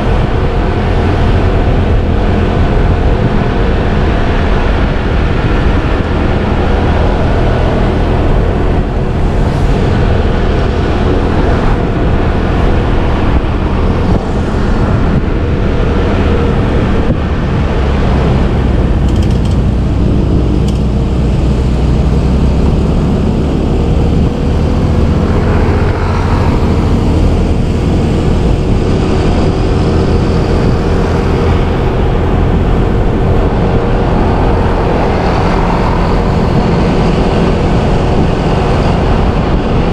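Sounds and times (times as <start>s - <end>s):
traffic noise: 0.0s - 39.9s.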